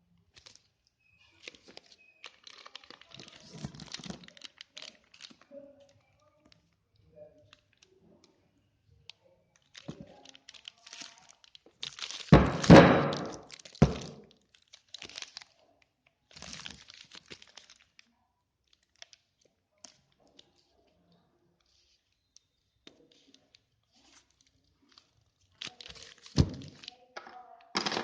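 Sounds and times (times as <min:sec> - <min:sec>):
plastic wrapping rustling: 0:00.3 - 0:28.0.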